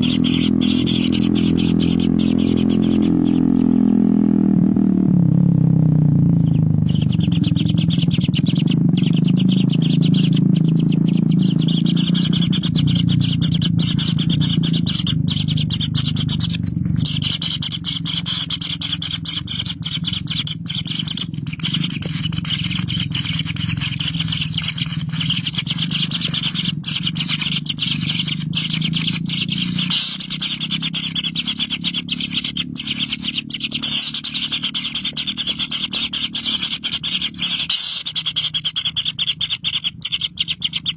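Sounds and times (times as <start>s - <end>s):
birds chirping chorus: 0.0s - 5.4s, 6.1s - 40.9s
low steady hum: 0.0s - 40.9s.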